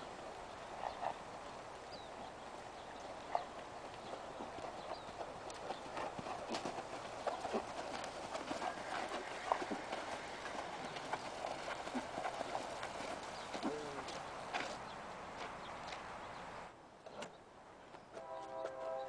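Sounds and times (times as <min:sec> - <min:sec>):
hooves stepping on dirt: 0:00.0 - 0:19.0.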